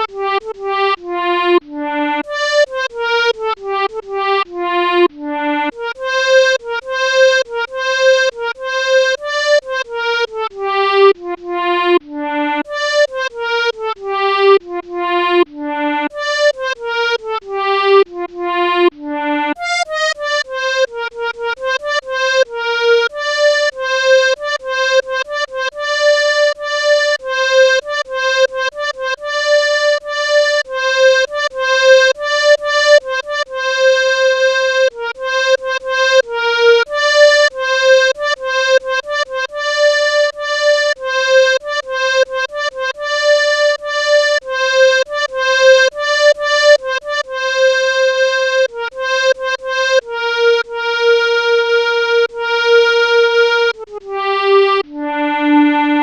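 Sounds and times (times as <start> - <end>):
melodica playing melody: 0.0 - 56.0.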